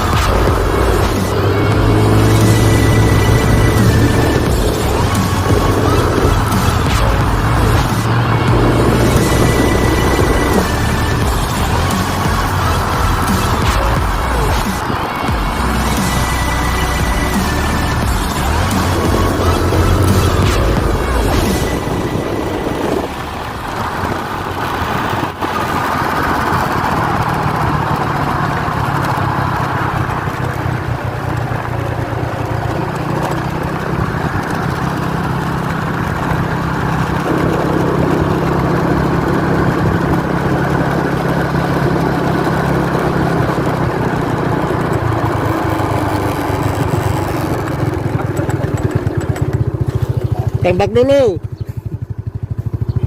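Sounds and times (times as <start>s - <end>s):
noisy rush: 0.0s - 53.0s
vehicle engine running: 0.0s - 53.0s.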